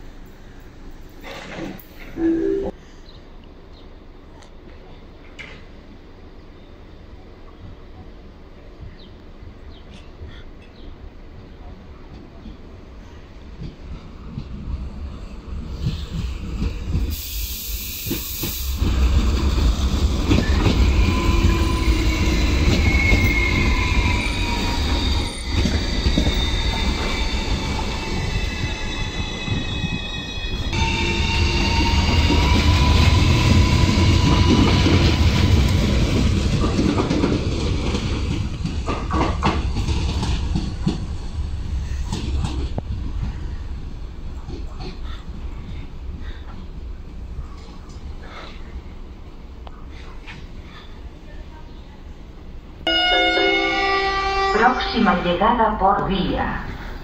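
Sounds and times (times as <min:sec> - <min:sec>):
train wheels rumbling on rails: 0:03.7 - 0:54.5.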